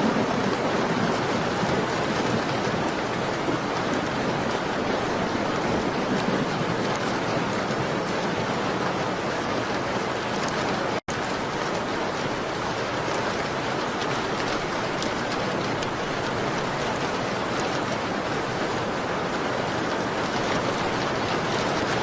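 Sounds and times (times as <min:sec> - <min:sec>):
rain pattering on a window: 0:00.0 - 0:22.0.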